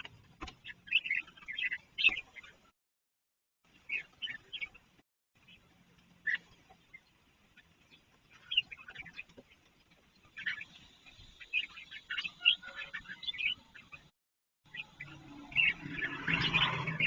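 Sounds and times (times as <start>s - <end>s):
bulbuls chirping: 0.0s - 2.7s, 3.7s - 14.1s, 14.7s - 17.0s.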